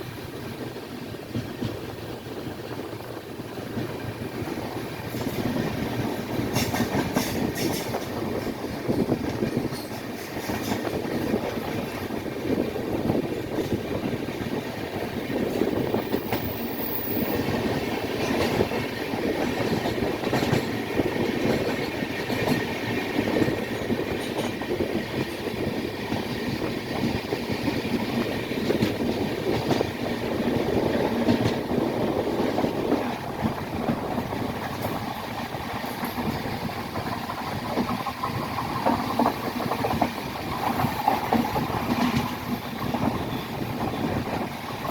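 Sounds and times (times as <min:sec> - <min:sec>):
train wheels on rail: 0:00.0 - 0:44.9.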